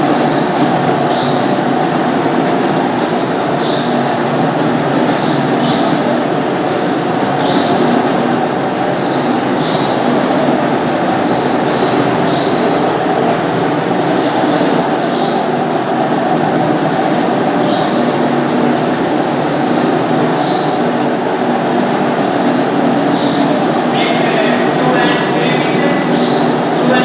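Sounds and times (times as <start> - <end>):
floor polishing machine running: 0.0 - 27.0.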